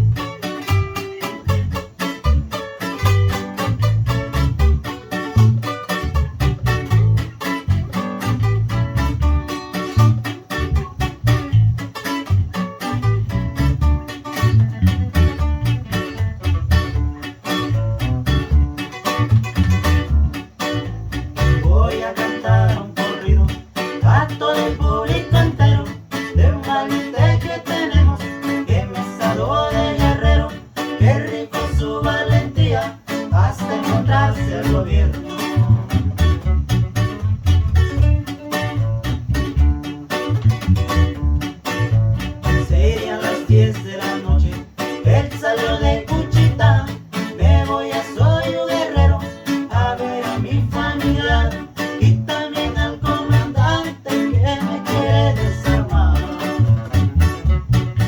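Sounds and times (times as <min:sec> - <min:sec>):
plucked guitar melody: 0:00.0 - 0:58.0
pulsing bass line: 0:00.0 - 0:58.0.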